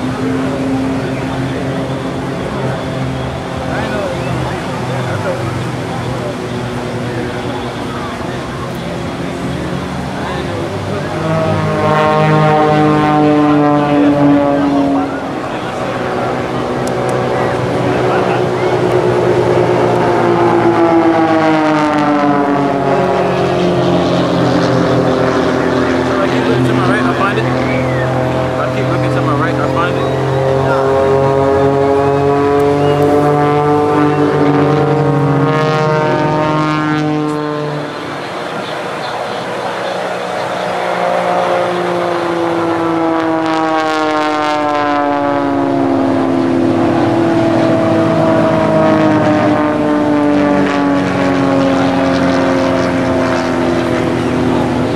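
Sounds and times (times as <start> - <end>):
propeller planes droning overhead: 0.0 - 54.9.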